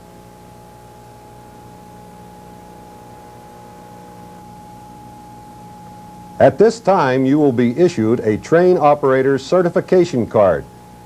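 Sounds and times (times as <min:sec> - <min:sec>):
electrical hum: 0:00.0 - 0:11.0
faint high steady tone: 0:00.0 - 0:11.0.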